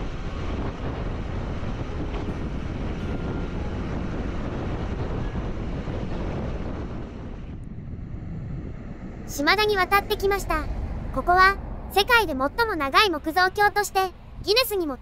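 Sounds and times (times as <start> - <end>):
wind rushing on microphone: 0.0 - 12.8
road noise: 0.0 - 15.0.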